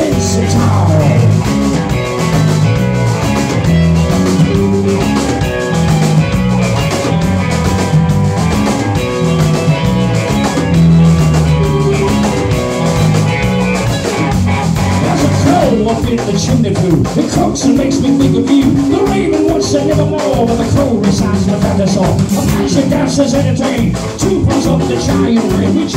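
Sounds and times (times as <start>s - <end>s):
rock band playing live: 0.0s - 25.9s.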